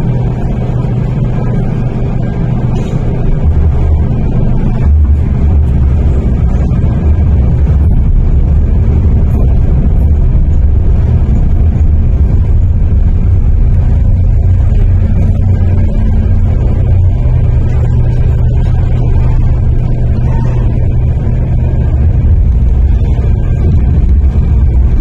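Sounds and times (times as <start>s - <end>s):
faint steady hum: 0.0s - 25.0s
train wheels rumbling on rail: 0.0s - 25.0s.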